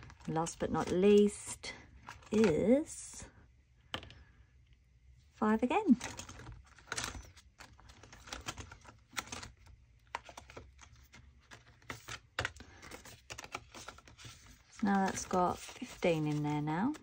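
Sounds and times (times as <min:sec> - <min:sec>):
hands handling plastic binder pockets: 0:00.0 - 0:02.9, 0:05.8 - 0:17.0.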